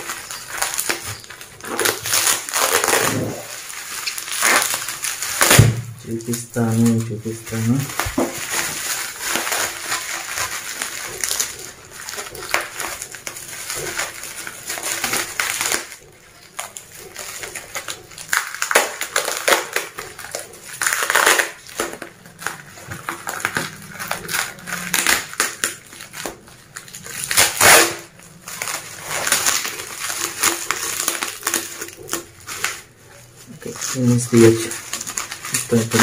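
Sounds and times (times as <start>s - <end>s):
bubble wrap crinkling: 0.0s - 36.0s.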